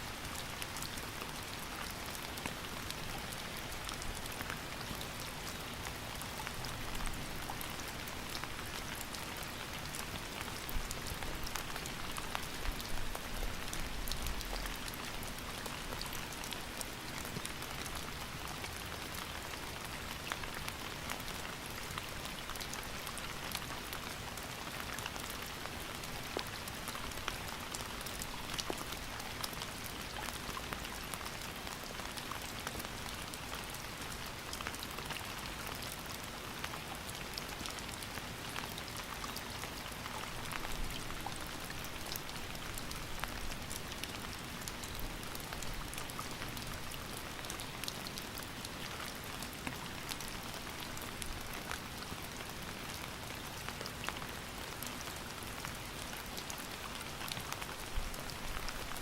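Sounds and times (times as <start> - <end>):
rain drops pattering: 0.0 - 59.0.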